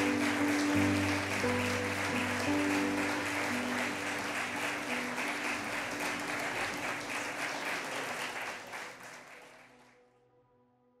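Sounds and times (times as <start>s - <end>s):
audience applauding: 0.0s - 10.0s
soft music: 0.0s - 11.0s.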